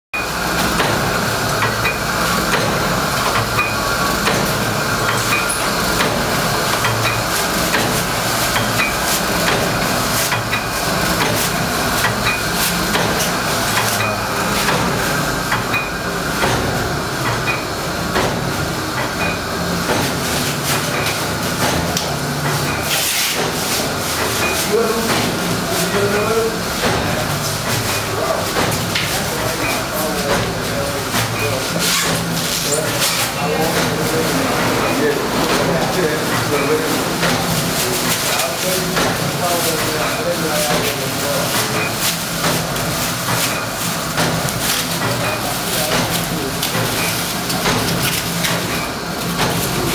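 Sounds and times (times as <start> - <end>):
packaging machine clattering: 0.3 - 49.9.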